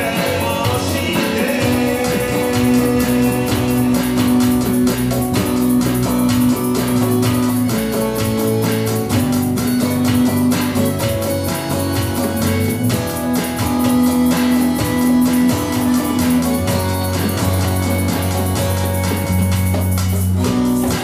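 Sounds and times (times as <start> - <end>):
acoustic guitar strumming: 0.0 - 21.0
electric bass line: 0.0 - 21.0
electronic drum kit: 0.0 - 21.0.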